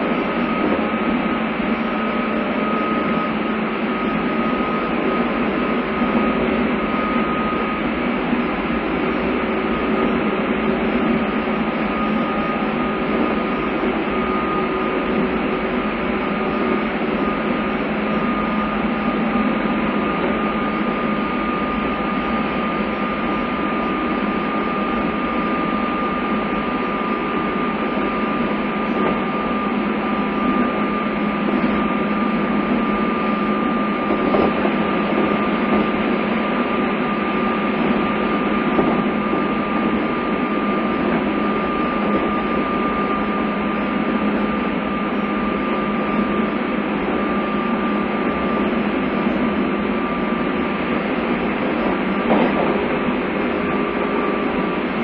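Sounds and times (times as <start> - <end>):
train running noise: 0.0 - 55.0.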